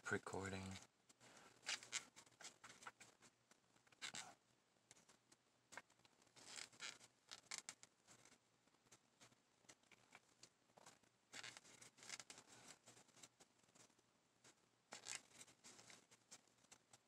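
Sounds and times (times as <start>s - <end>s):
crochet hook scratching yarn: 1.6s - 17.0s.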